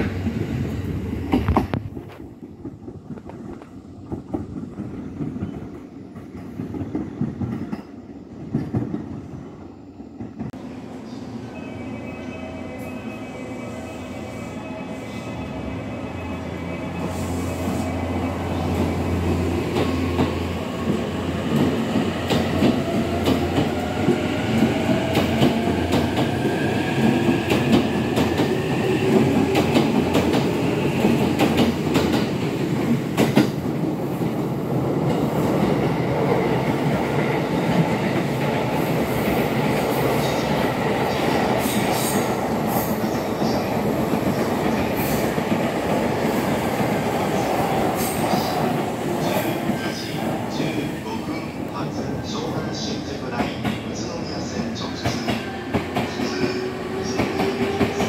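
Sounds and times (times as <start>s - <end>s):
train rumble: 0.0s - 11.8s, 13.4s - 58.0s.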